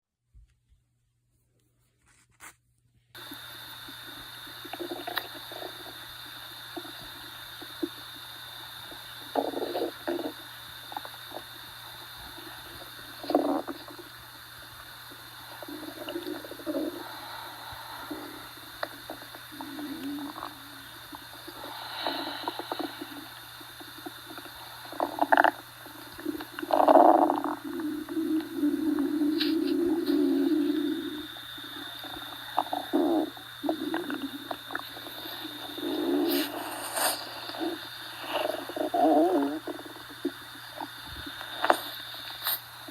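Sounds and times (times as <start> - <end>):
steady hiss and hum: 0.2 - 42.9
cat stomach gurgling: 3.2 - 42.9.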